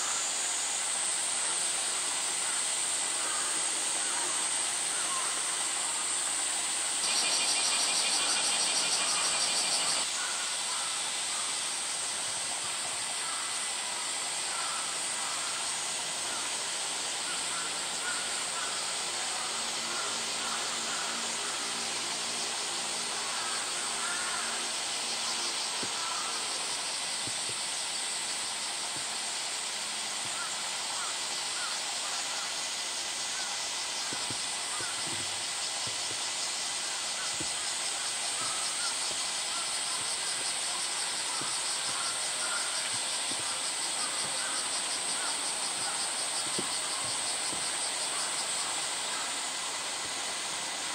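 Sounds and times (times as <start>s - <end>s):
cicadas droning: 0.0s - 50.9s
rapidly pulsing cicada call: 0.0s - 50.9s.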